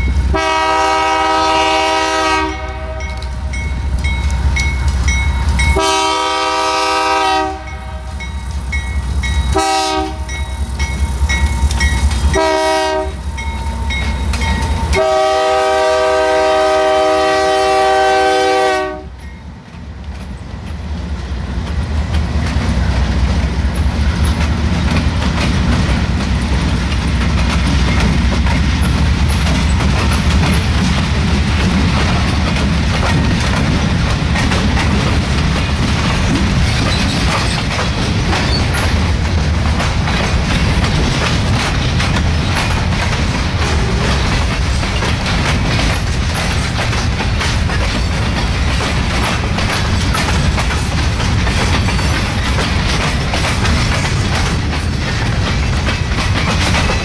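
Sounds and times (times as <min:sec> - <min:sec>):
freight train rumble: 0:00.0 - 0:57.0
wheels clacking on rail joints: 0:00.0 - 0:57.0.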